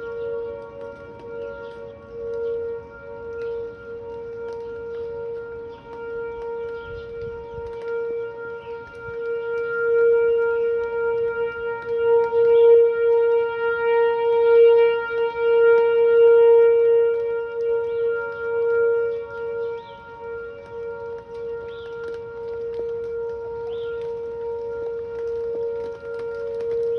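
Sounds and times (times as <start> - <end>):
warning siren steady tone: 0.0 - 26.9.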